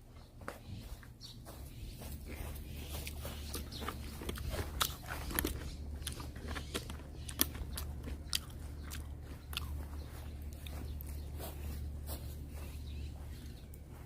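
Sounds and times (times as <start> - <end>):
steady low hum: 0.0 - 14.0
chewing: 1.9 - 13.9.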